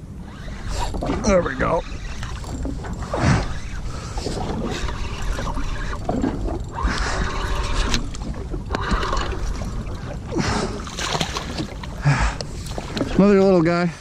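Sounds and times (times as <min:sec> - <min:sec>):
water splashing against hull: 0:00.0 - 0:14.0
wind rumbling on microphone: 0:00.0 - 0:14.0.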